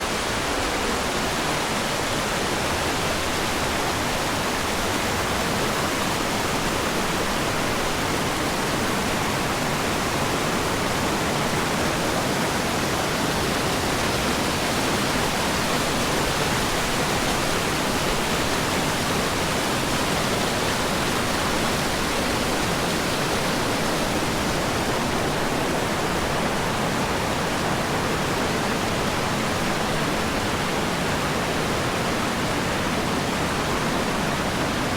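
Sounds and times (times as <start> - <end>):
creek water rushing: 0.0 - 34.9.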